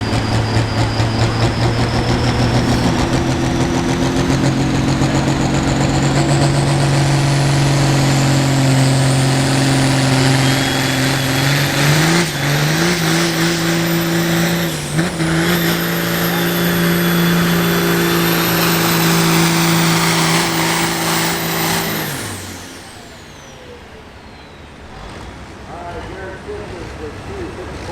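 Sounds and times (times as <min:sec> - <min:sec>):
high turbo whistle: 0:00.0 - 0:25.0
diesel tractor engine under load: 0:00.0 - 0:27.9.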